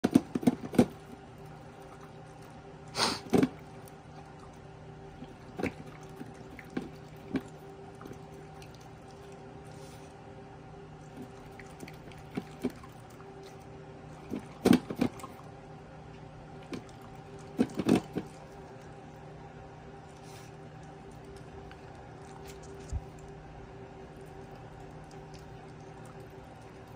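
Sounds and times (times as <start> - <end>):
faint hum: 0.0 - 26.9.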